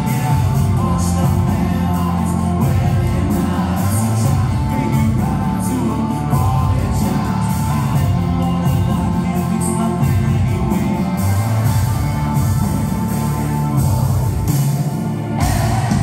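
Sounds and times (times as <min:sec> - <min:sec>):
man singing: 0:00.0 - 0:14.6, 0:15.4 - 0:16.0
live rock band: 0:00.0 - 0:16.0.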